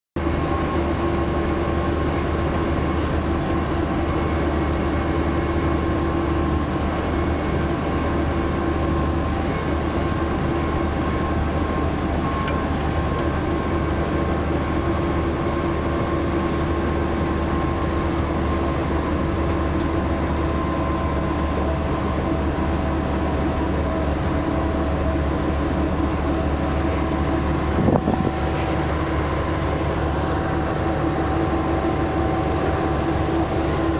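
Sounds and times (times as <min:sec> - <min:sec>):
bus engine and road drone: 0:00.2 - 0:33.9.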